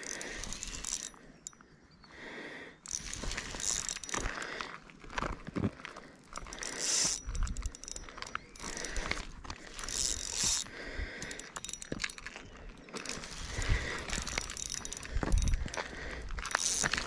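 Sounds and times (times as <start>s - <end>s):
fishing reel gears clicking and whirring: 0.0s - 1.6s, 2.7s - 4.6s, 6.1s - 17.0s.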